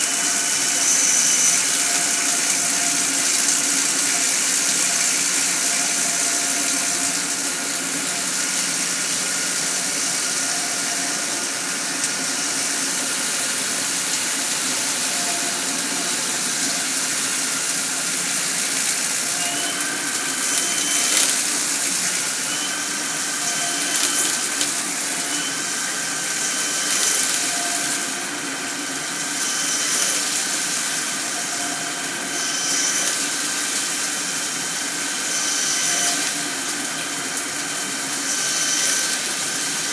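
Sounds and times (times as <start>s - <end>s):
coolant splashing and hissing: 0.0s - 39.9s
lathe machine whine: 0.0s - 39.9s.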